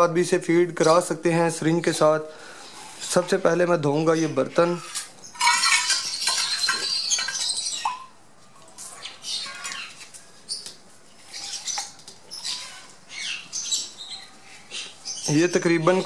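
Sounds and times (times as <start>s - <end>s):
parrots chirping and squawking: 1.9s - 16.0s.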